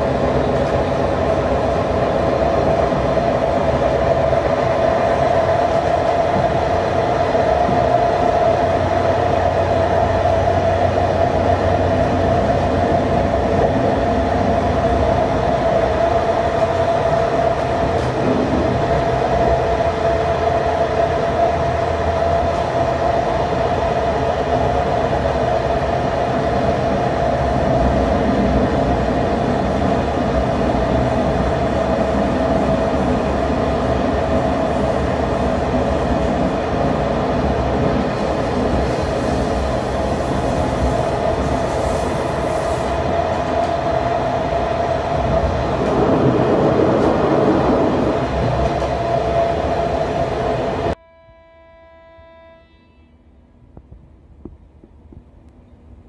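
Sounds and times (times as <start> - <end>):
train rumbling on rails: 0.0 - 51.0
locomotive engine drone: 0.0 - 56.0.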